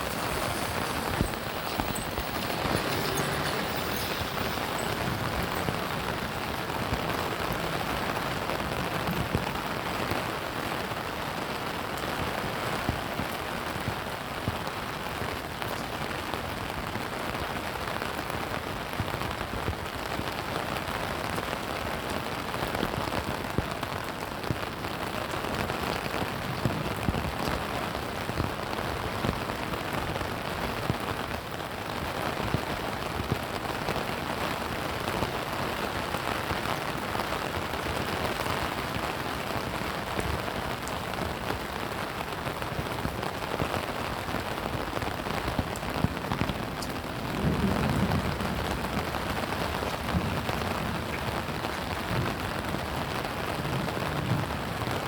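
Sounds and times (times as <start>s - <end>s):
raindrops ticking sharply: 0.0s - 55.0s
steady rain falling: 0.0s - 55.0s.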